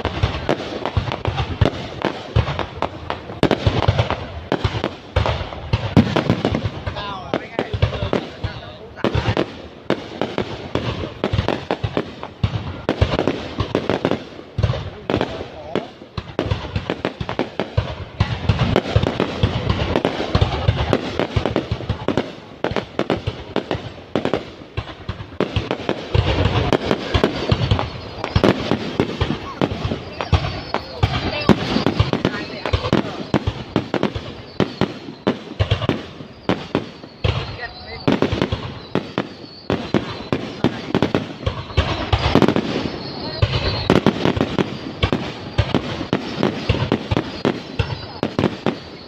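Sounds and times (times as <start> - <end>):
fireworks bangs: 0.0 - 49.0
fireworks crackling: 0.0 - 49.0.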